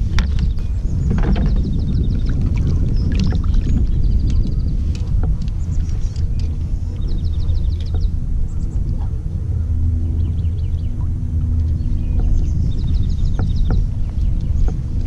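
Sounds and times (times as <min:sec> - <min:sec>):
water sloshing against kayak hull: 0:00.0 - 0:09.7, 0:10.9 - 0:15.0
wind rumble on microphone: 0:00.0 - 0:15.0.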